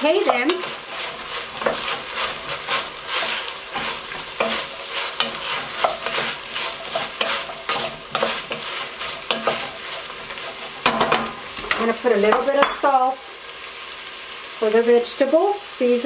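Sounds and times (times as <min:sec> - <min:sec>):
stirring in a pot: 0:00.0 - 0:12.9
vegetables sizzling in oil: 0:00.0 - 0:16.0.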